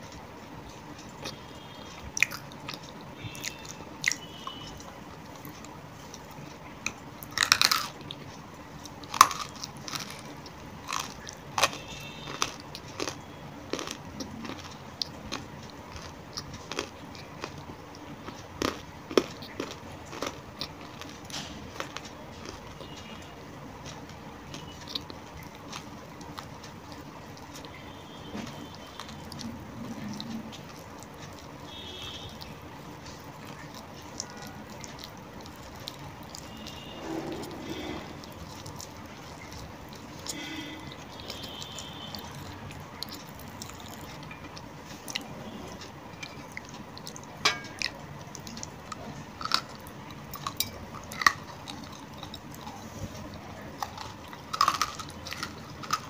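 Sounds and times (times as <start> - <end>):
crunching and chewing clay: 0.0 - 56.0.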